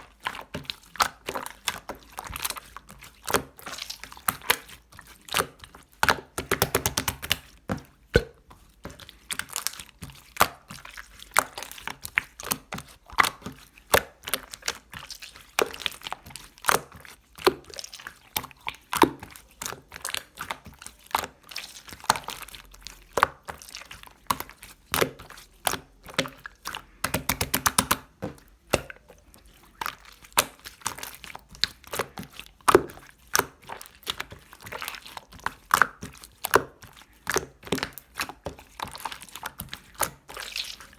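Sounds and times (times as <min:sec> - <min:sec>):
slime squishing with wet pops: 0:00.0 - 0:40.9.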